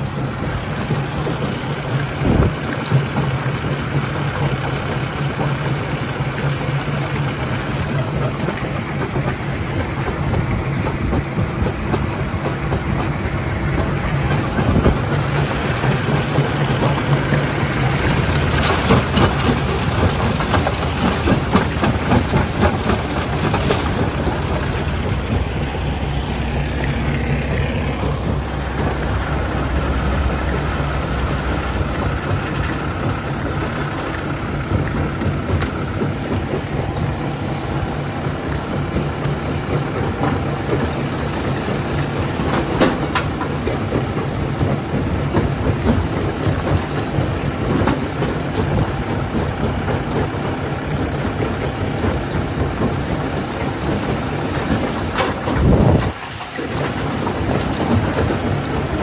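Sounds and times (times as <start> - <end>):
jaw crusher droning: 0.0 - 59.0.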